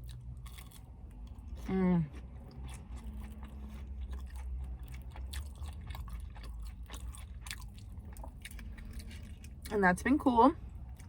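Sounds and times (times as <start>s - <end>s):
person chewing food: 0.0s - 9.7s, 10.6s - 11.0s
low steady hum: 0.0s - 11.0s.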